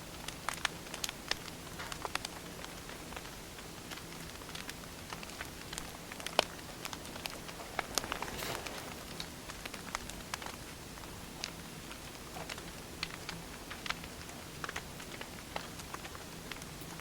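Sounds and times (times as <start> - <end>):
firewood crackling and popping: 0.0 - 17.0
fire hiss: 2.5 - 16.9.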